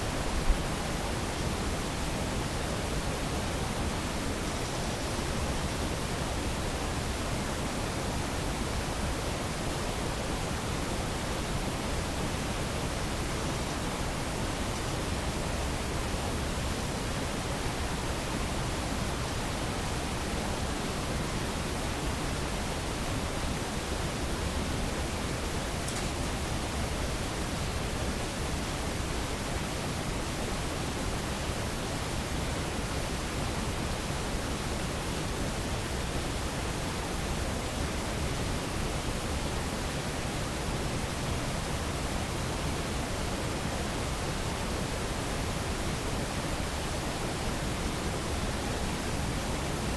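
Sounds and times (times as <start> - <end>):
recorder noise hiss: 0.0 - 49.9.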